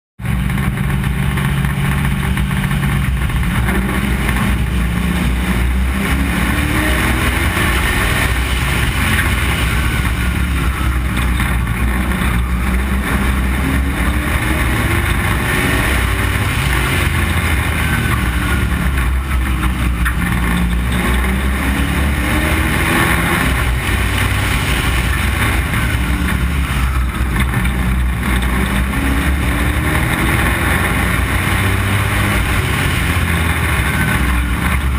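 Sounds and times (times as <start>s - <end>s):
race car engine revving: 0.2s - 34.9s.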